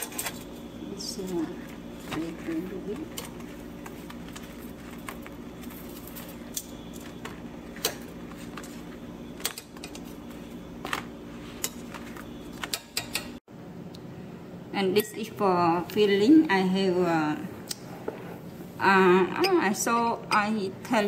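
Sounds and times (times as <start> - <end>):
gas burner hum: 0.0 - 21.0.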